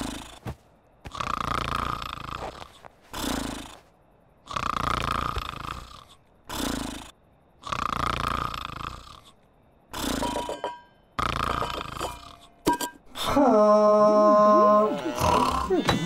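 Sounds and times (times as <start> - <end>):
cartoon snoring: 0.0 - 0.4, 1.0 - 10.5, 11.2 - 12.6, 13.2 - 16.0.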